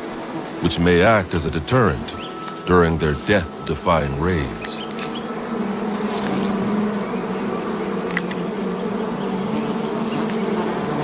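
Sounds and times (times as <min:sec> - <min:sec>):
swarm of bees buzzing: 0:00.0 - 0:11.0.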